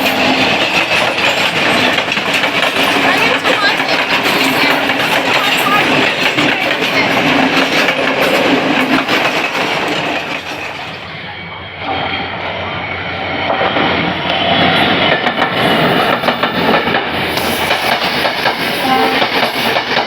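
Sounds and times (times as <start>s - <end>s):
train wheels clattering on rails: 0.0s - 11.2s, 11.8s - 20.0s.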